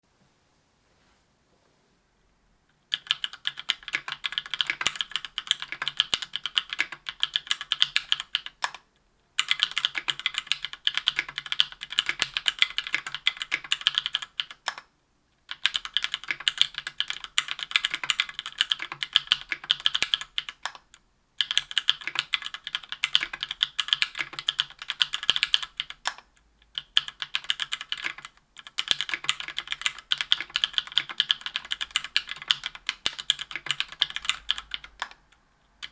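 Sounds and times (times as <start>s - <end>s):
mechanical keyboard typing: 2.9s - 35.9s.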